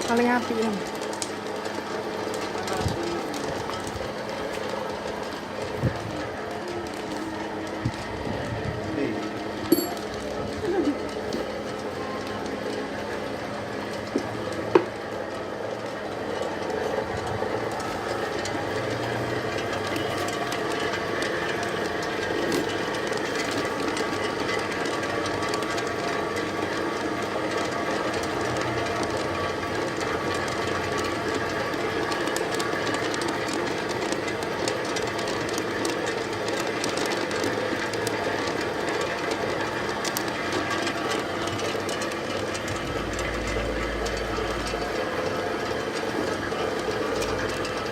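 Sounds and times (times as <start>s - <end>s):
pellet mill running: 0.0s - 47.9s.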